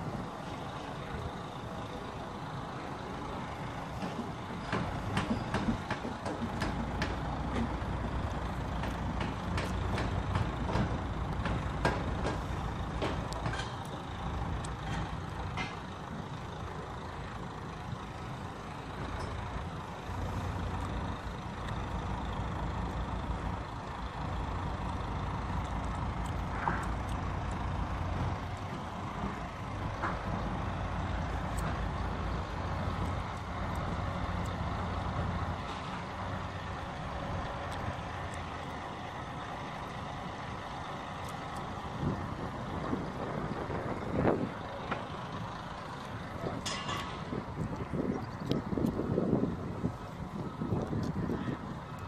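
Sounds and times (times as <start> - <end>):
lorry diesel engine running: 0.0 - 52.0.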